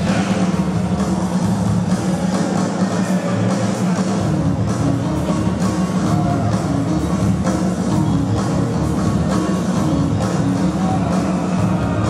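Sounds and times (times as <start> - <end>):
dance music over speakers: 0.0 - 12.0.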